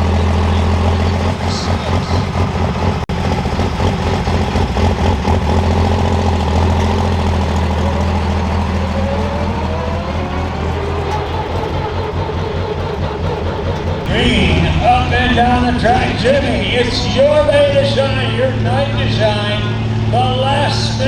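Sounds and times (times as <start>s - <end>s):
diesel engine pulsing: 0.0s - 21.0s
rising engine whine: 0.0s - 21.0s.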